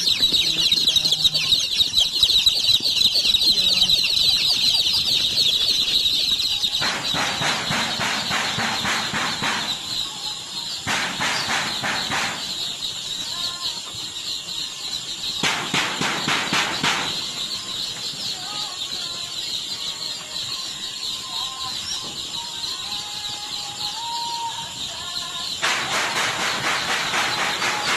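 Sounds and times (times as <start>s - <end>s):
baby chicks peeping: 0.0s - 27.9s.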